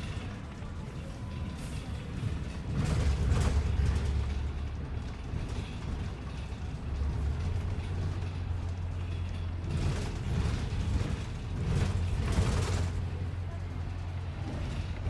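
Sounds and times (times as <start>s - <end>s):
bus engine rumble: 0.0s - 15.0s
bus fittings rattling and creaking: 0.0s - 15.0s.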